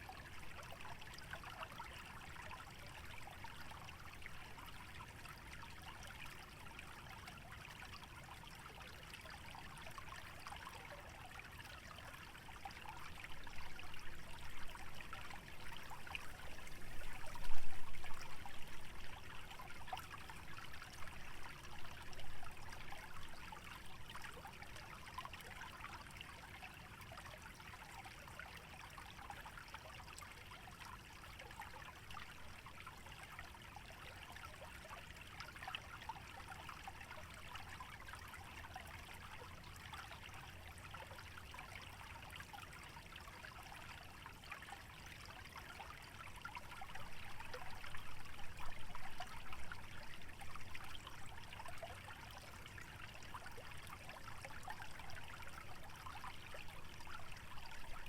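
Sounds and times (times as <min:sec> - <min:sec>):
stream trickling over shallow water: 0:00.0 - 0:58.0.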